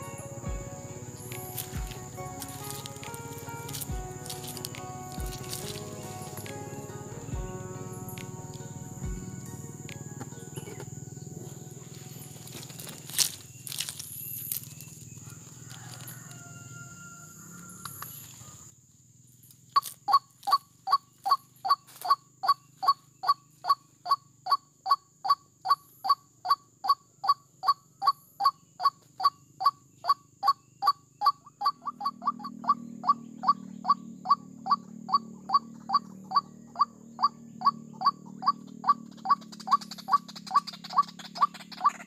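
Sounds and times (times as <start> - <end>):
bird calling hoarse notes: 0.0 - 16.3, 20.1 - 42.0.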